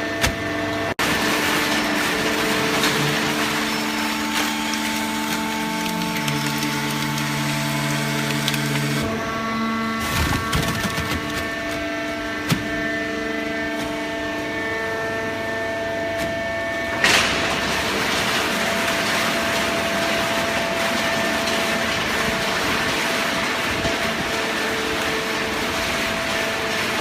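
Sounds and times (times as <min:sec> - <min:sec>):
hydraulic pump whine: 0:00.0 - 0:27.0.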